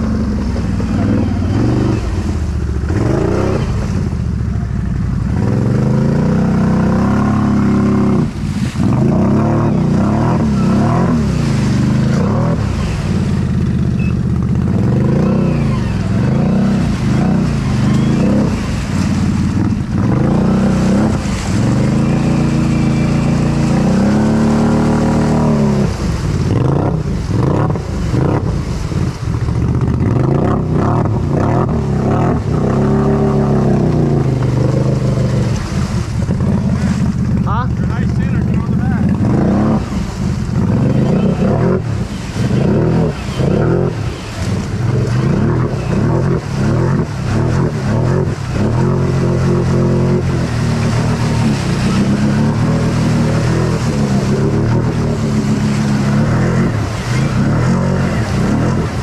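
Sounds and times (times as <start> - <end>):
atv engine revving: 0.0 - 59.0
water splashing: 0.0 - 59.0.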